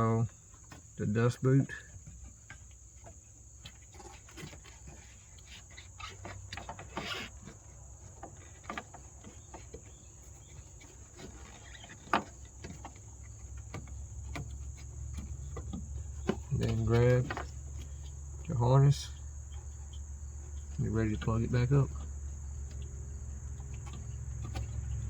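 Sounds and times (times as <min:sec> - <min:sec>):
crickets chirping: 0:00.0 - 0:25.0
light clicks and knocks: 0:01.7 - 0:25.0.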